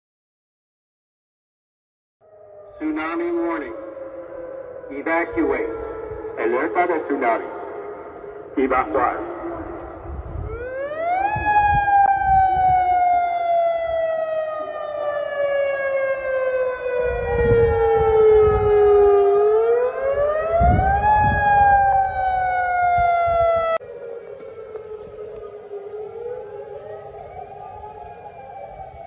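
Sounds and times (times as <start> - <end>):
warning siren wailing: 2.2 - 29.0.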